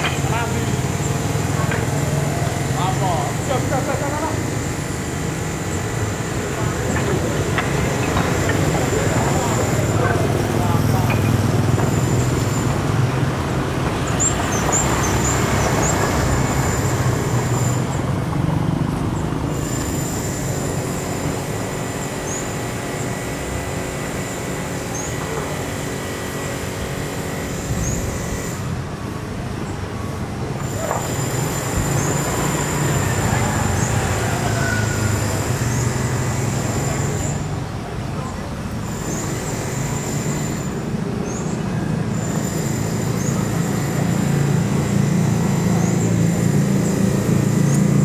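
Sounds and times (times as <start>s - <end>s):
motorbikes and cars passing: 0.0s - 48.0s.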